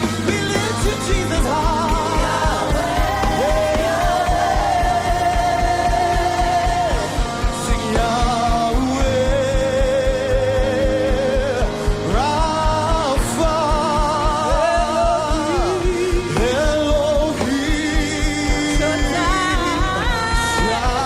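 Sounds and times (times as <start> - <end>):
gospel band playing: 0.0 - 21.0.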